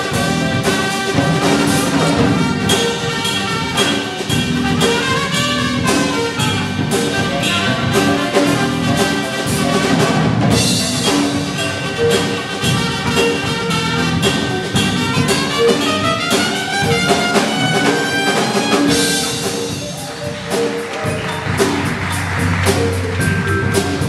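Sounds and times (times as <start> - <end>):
jazz big band playing: 0.0 - 24.0.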